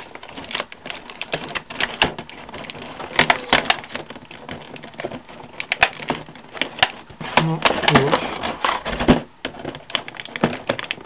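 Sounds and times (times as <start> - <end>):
plastic packaging crackling: 0.0 - 11.0
sharp plastic snaps: 0.0 - 11.0.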